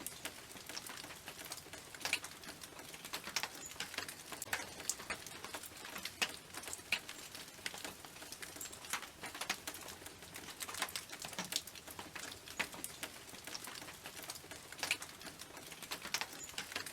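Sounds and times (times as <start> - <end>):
rain on a tin roof: 0.0 - 16.9.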